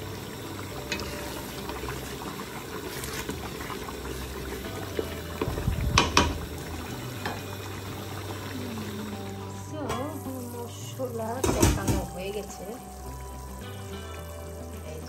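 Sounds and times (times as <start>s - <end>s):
curry bubbling and spluttering: 0.6s - 14.2s.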